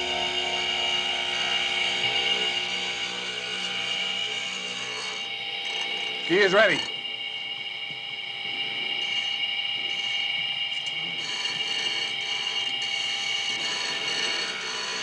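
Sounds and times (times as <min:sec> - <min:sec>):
key-cutting machine whining and grinding: 0:00.0 - 0:15.0.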